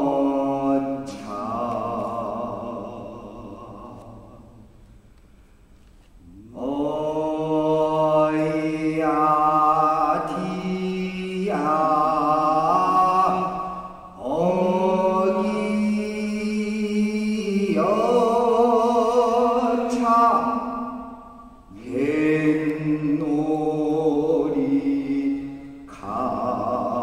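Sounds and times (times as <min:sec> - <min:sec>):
voices singing unaccompanied: 0:00.0 - 0:04.6, 0:06.3 - 0:27.0.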